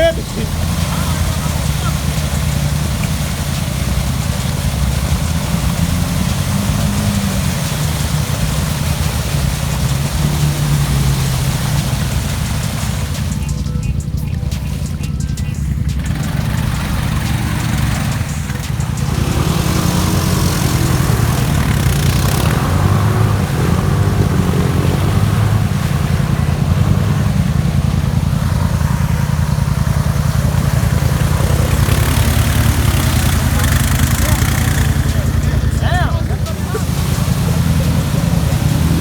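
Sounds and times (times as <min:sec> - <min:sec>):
atv engine running: 0:00.0 - 0:39.0
rushing noise: 0:00.0 - 0:39.0.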